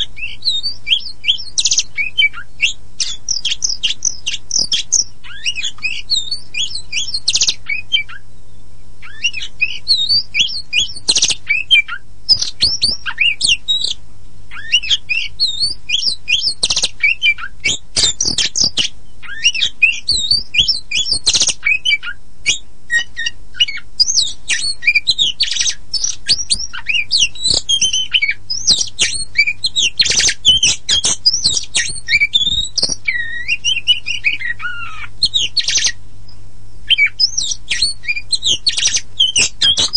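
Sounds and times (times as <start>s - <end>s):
low steady hum: 0.0s - 39.9s
songbird singing: 0.0s - 39.9s.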